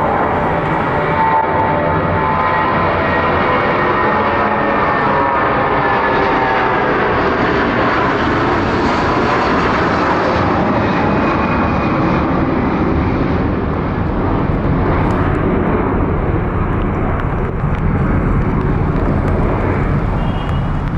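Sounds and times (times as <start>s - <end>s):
airliner engines running: 0.0s - 20.9s.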